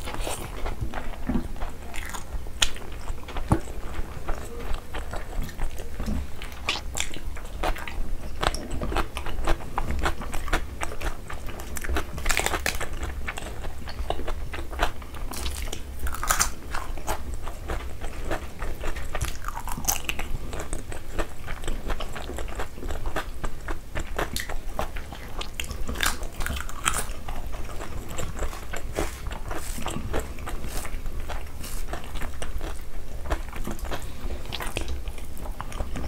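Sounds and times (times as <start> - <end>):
chewing and crunching: 0.0 - 36.0.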